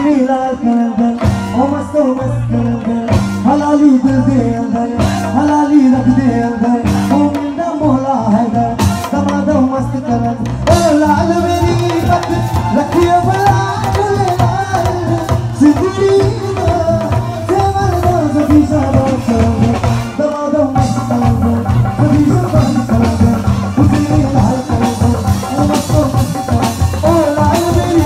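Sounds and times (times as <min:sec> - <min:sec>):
live rock band: 0:00.0 - 0:28.0
man singing: 0:00.0 - 0:28.0.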